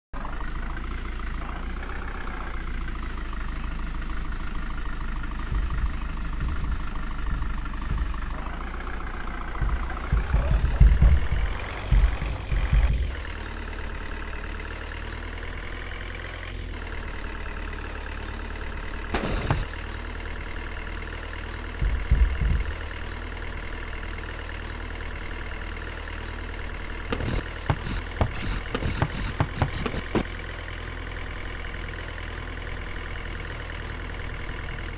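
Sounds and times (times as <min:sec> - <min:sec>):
vehicle engine idling and revving: 0:00.0 - 0:34.9.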